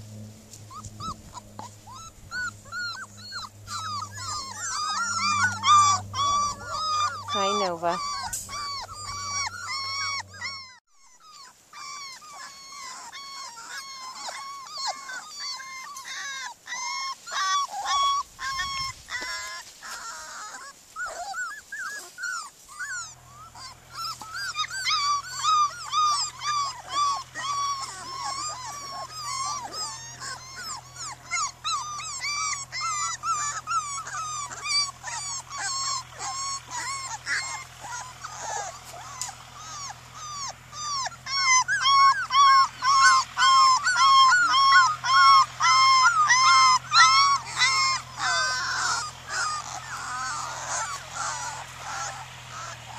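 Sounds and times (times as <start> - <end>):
low steady hum: 0.0 - 52.9
puppies whining and yipping: 0.0 - 52.9.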